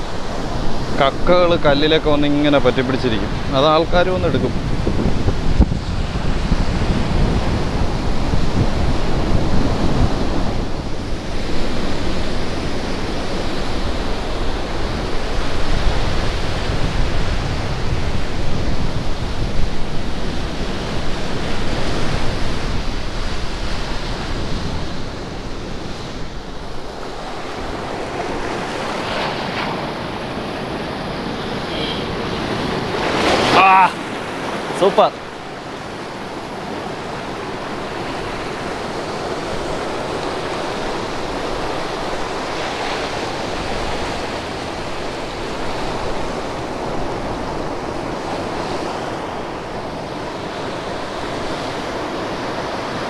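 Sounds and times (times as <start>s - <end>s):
surf washing over rocks: 0.0s - 53.0s
wind rumbling on microphone: 0.0s - 53.0s.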